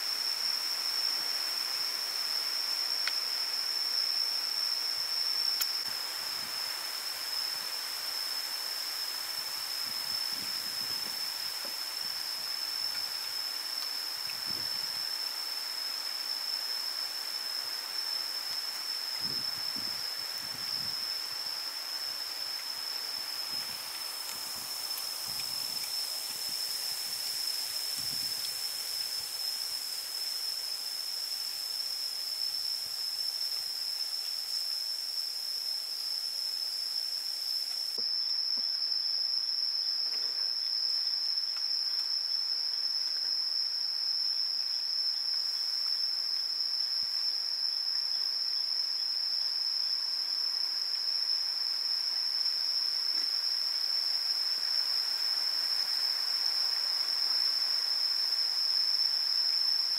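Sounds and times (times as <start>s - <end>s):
insects buzzing high-pitched: 0.0s - 59.9s.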